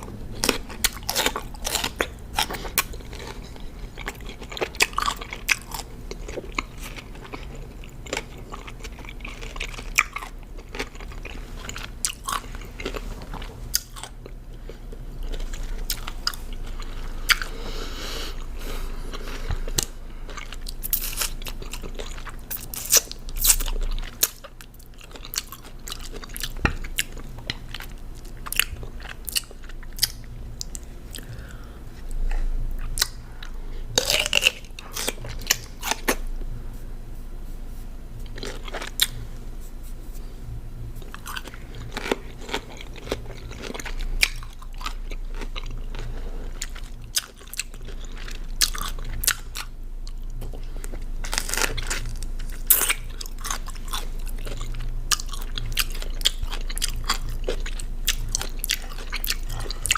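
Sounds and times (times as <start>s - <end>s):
chewing crunchy cucumber: 0.0s - 36.6s, 38.0s - 40.0s, 40.9s - 59.9s.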